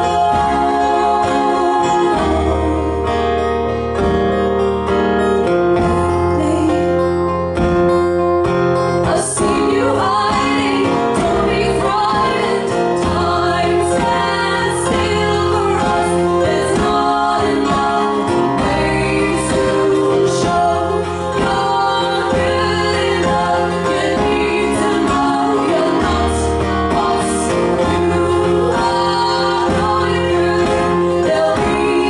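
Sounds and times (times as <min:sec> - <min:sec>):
women singing: 0:00.0 - 0:03.5, 0:06.0 - 0:07.1, 0:09.0 - 0:32.0
strummed acoustic guitar: 0:00.0 - 0:32.0.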